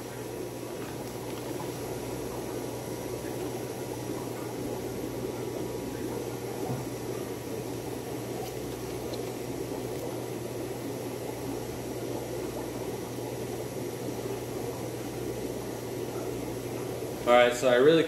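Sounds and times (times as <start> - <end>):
low hum: 0.0 - 17.3.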